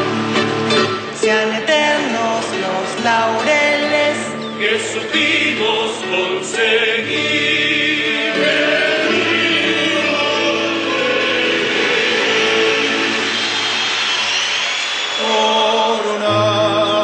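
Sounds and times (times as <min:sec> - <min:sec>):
choir singing: 0:01.8 - 0:17.0.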